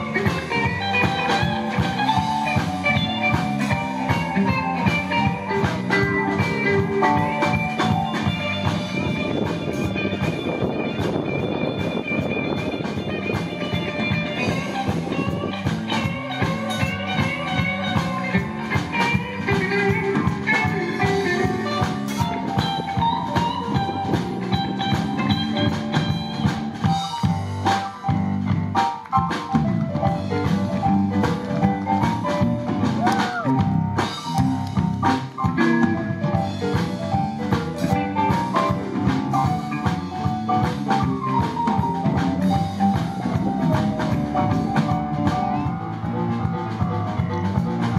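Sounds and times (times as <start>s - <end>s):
drum kit shuffle beat: 0.0s - 47.9s
electric guitar: 0.0s - 47.9s
stage piano: 0.0s - 47.9s.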